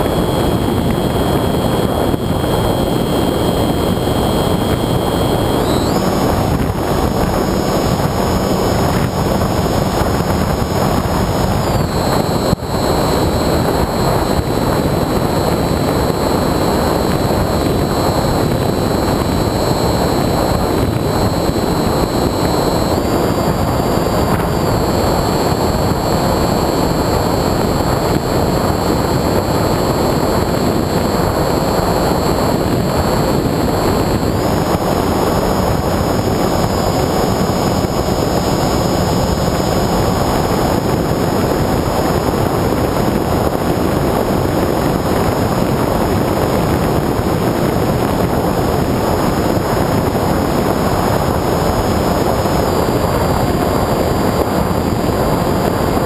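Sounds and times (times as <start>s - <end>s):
electric motor and propeller whine: 0.0s - 56.0s
wind rush: 0.0s - 56.0s.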